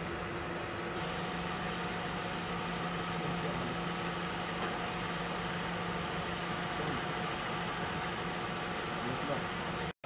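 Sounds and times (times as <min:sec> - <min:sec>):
car engine idling: 0:00.0 - 0:09.9
constant hiss: 0:00.0 - 0:09.9.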